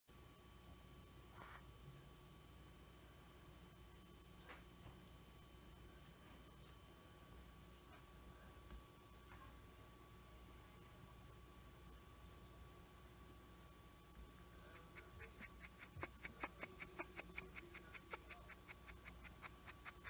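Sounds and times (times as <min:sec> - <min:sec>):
cricket chirping: 0:00.2 - 0:20.0.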